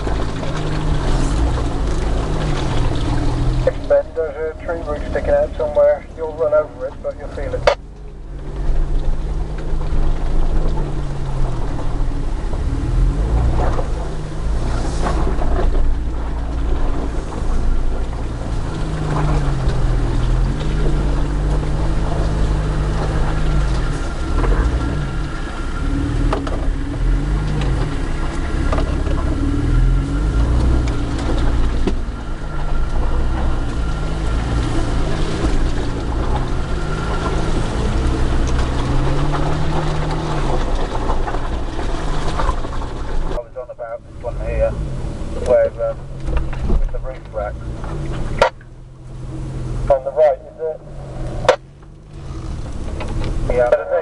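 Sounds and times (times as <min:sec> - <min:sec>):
engine revving off-road: 0:00.0 - 0:54.0.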